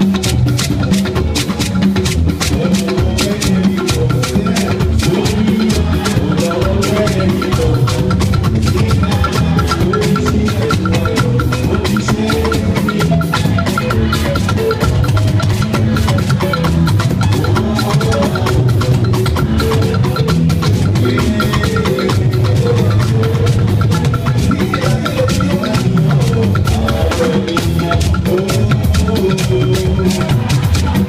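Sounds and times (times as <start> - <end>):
church music with drums: 0.0 - 31.0.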